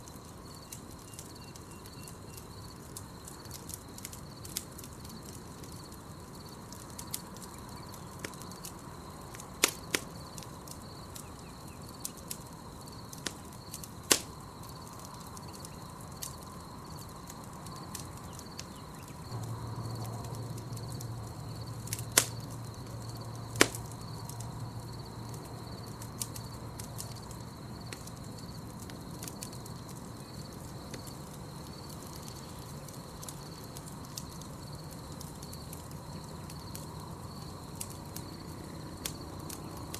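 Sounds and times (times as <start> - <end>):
campfire crackling and popping: 0.0 - 39.9
crickets chirring: 0.0 - 39.9.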